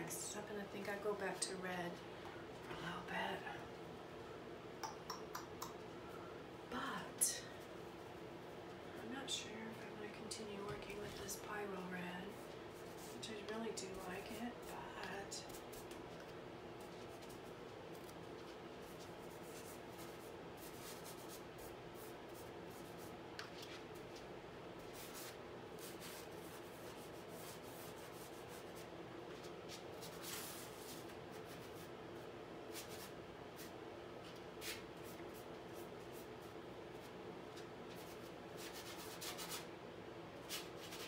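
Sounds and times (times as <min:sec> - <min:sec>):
low room hum: 0:00.0 - 0:41.0.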